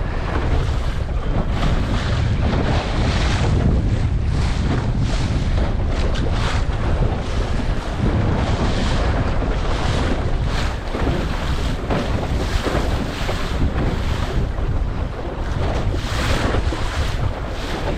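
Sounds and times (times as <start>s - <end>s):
waves splashing against hull: 0.0s - 17.9s
wind buffeting microphone: 0.0s - 17.9s.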